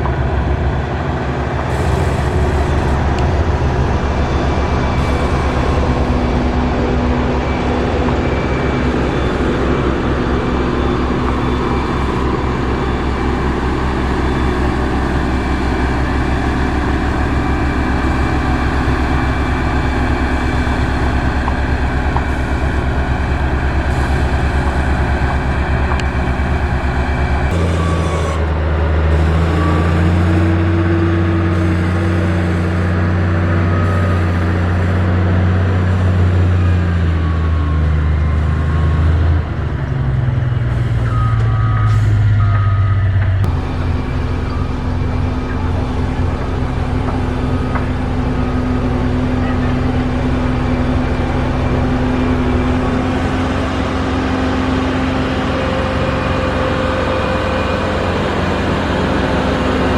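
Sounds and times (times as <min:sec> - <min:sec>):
heavy diesel machinery engine: 0:00.0 - 0:59.9
second machine engine: 0:00.0 - 0:59.9.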